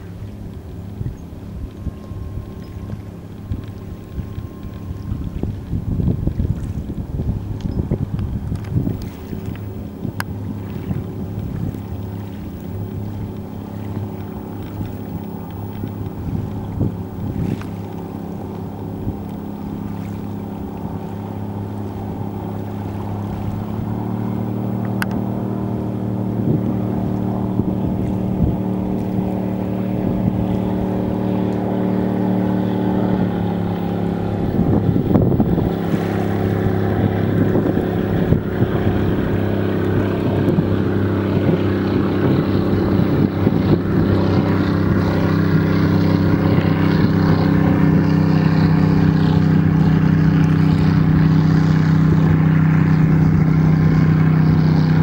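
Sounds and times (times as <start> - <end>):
light wind noise: 0.0 - 55.0
low engine drone: 0.0 - 55.0.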